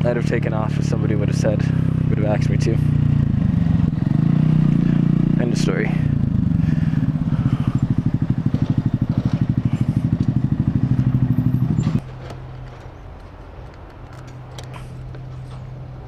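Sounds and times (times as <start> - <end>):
motorcycle engine putting: 0.0 - 16.0.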